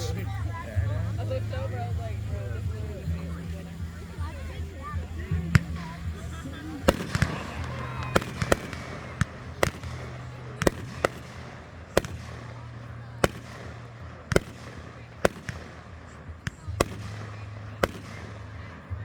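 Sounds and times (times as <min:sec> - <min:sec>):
firework bangs: 0:00.0 - 0:19.0
steady low hum: 0:00.0 - 0:19.0.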